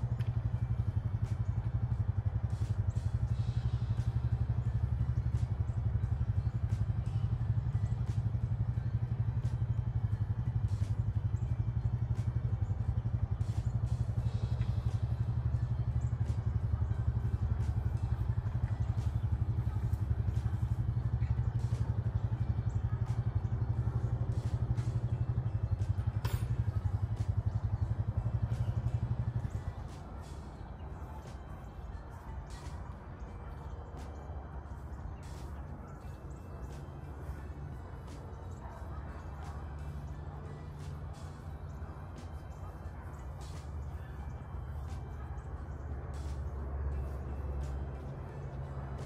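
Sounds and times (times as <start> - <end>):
atv engine idling: 0.0 - 49.0.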